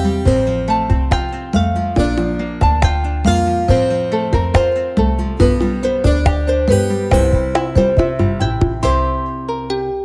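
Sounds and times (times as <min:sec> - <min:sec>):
plucked-string melody over bass: 0:00.0 - 0:10.0.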